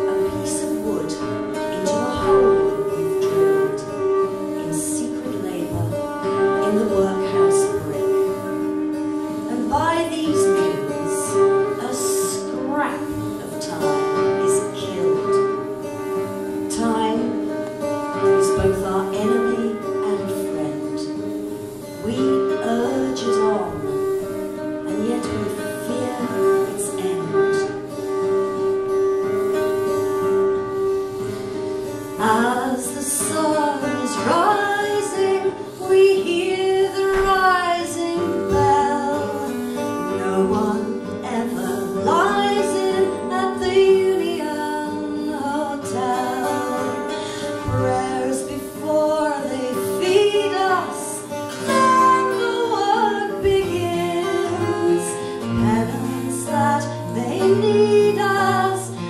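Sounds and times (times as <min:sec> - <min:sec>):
acoustic folk music: 0:00.0 - 0:59.0
plucked guitar: 0:00.0 - 0:59.0
sliding sustained melody line: 0:00.0 - 0:59.0.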